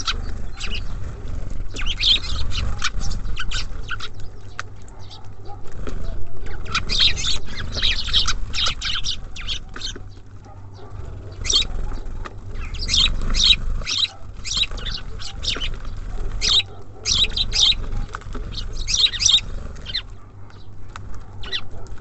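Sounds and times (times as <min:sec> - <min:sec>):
songbirds chirping: 0:00.0 - 0:22.0
steady low rumble: 0:00.0 - 0:22.0.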